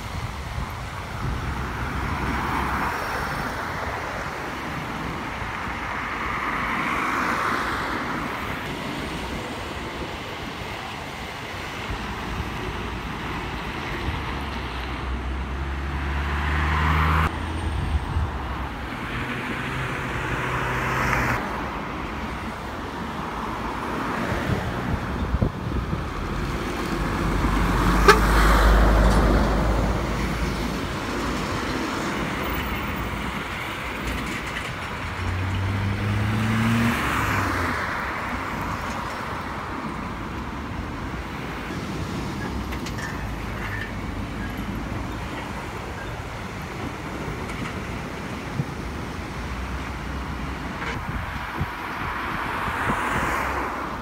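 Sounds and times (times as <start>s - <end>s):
diesel engines humming: 0.0s - 54.0s
traffic tyre noise: 0.0s - 54.0s.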